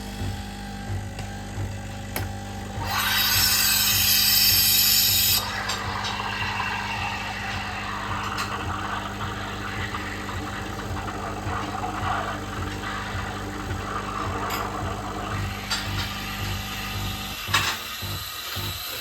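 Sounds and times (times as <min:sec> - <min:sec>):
machine humming: 0:00.0 - 0:19.0.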